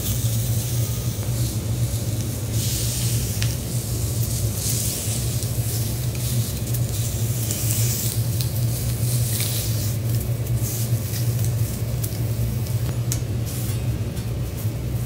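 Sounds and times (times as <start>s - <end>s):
food sizzling on griddle: 0.0s - 12.8s
steady low hum: 0.0s - 15.0s.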